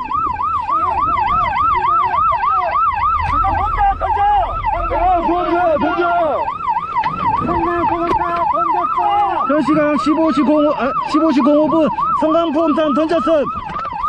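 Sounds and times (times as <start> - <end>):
boat engine rumble: 0.0 - 14.0
electronic yelp siren: 0.0 - 14.0
lower wavering siren: 0.0 - 14.0.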